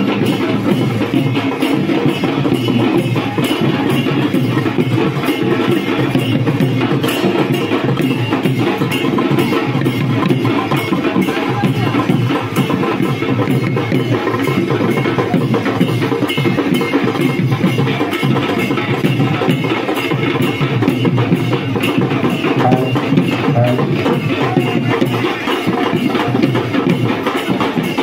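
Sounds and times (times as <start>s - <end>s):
barrel drums beaten with sticks: 0.0s - 28.0s.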